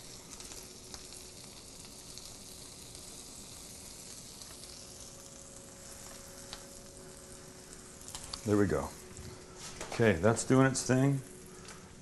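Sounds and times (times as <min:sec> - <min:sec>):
bread sizzling in butter: 0:00.0 - 0:12.0.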